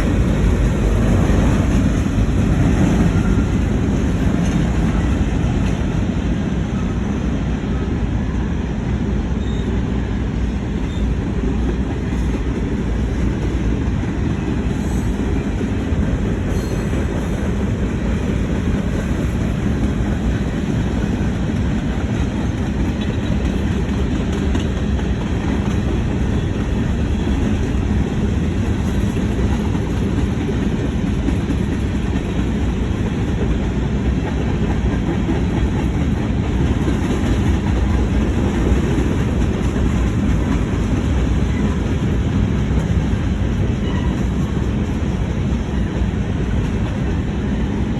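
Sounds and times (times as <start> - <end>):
freight train rumbling past: 0.0 - 47.9.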